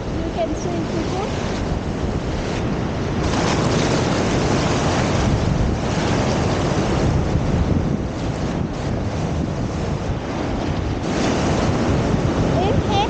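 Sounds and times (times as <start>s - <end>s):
surf breaking on a beach: 0.0s - 13.0s
wind buffeting the microphone: 0.0s - 13.0s.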